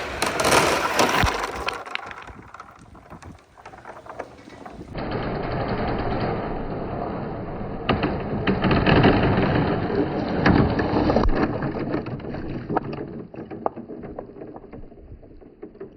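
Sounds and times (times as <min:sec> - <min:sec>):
marbles rolling on wooden run: 0:00.0 - 0:15.9.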